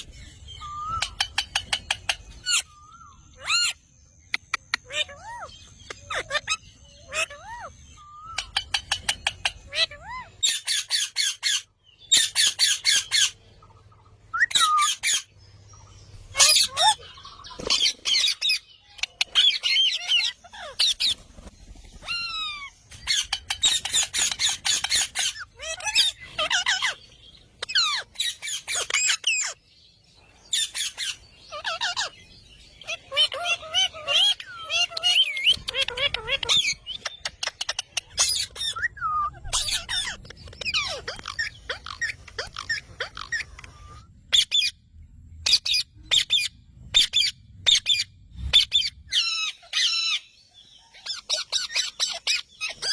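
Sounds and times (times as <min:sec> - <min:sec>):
parrot squawking and chirping: 0:00.0 - 0:29.7, 0:30.4 - 0:52.9.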